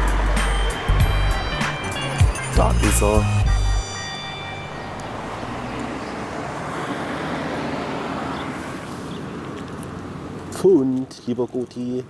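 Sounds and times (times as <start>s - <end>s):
road traffic rushing: 0.0s - 11.1s.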